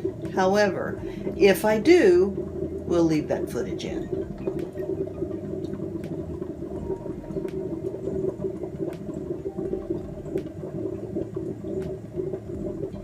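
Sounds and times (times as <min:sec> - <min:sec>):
coffee maker water bubbling: 0:00.0 - 0:13.0.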